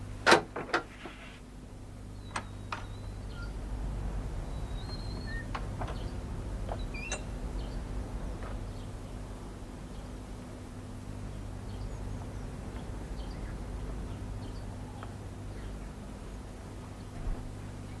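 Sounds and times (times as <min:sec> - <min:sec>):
low steady hum: 0:00.0 - 0:18.0
birds chirping: 0:02.1 - 0:10.3, 0:11.1 - 0:18.0.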